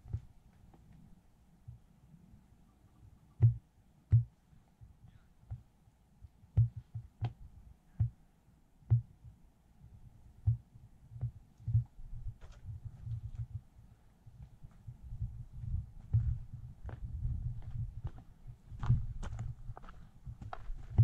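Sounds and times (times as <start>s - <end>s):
footsteps with dull thuds: 0.0s - 1.9s, 3.4s - 8.2s, 8.8s - 21.0s.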